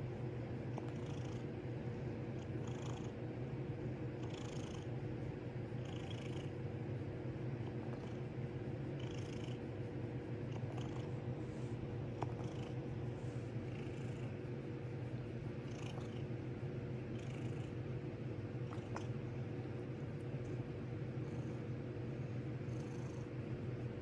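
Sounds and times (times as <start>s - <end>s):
cat purring: 0.0s - 3.3s, 4.0s - 24.0s.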